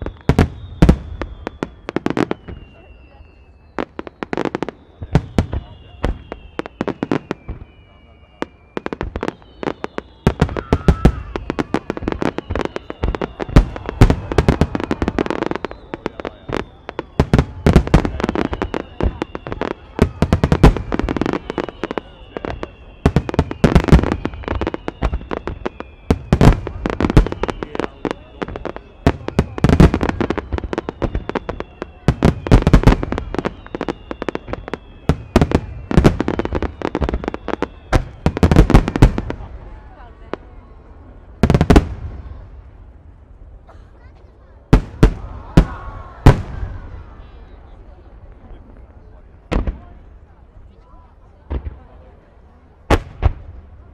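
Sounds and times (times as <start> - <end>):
fireworks bursting in volleys: 0.0 - 53.9.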